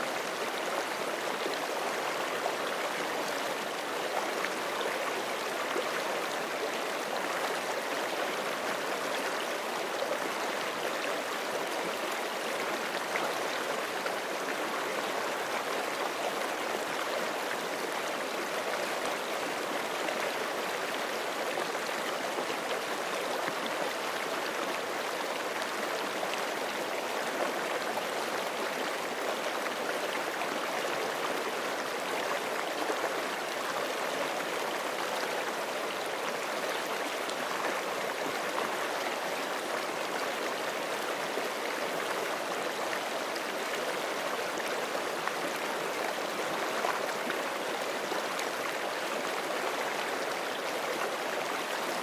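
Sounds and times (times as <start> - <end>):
creek flowing over rocks: 0.0 - 52.0.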